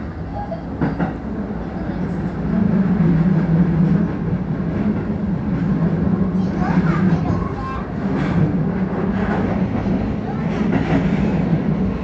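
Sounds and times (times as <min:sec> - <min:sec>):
low train hum: 0:00.0 - 0:12.0
train rolling noise: 0:00.0 - 0:12.0.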